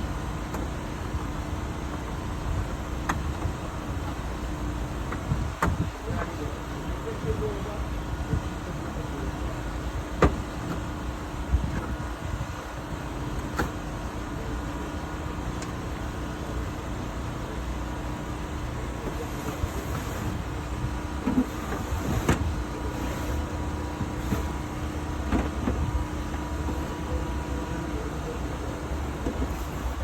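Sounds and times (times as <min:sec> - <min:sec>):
heavy machinery engine rumbling: 0:00.0 - 0:30.0.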